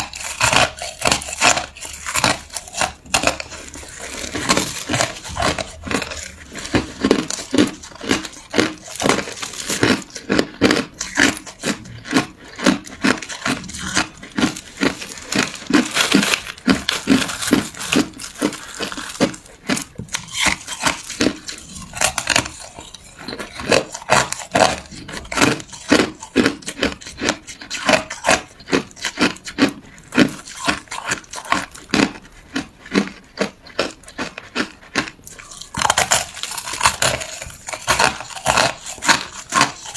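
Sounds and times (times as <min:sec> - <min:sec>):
ice being crunched by teeth: 0:00.0 - 0:39.9.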